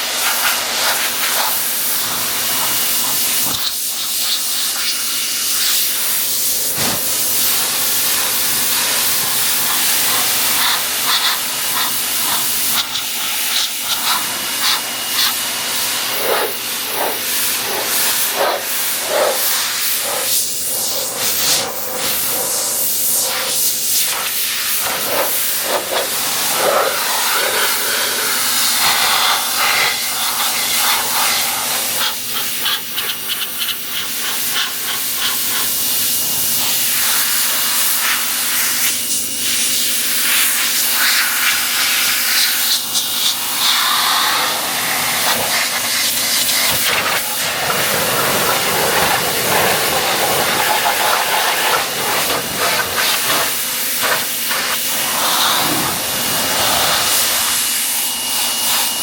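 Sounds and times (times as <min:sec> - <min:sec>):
pressure washer spraying: 0:00.0 - 0:59.0.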